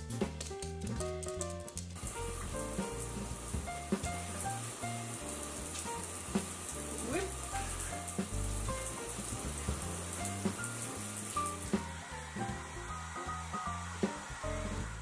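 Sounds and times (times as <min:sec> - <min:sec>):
background music with bass line: 0:00.0 - 0:15.0
shower water hissing: 0:02.0 - 0:15.0.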